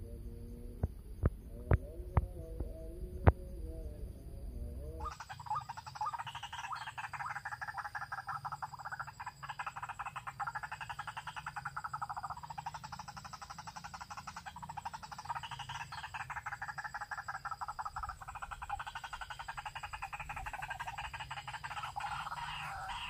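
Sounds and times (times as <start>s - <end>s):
bird pulsed croaking call: 0.0s - 23.0s.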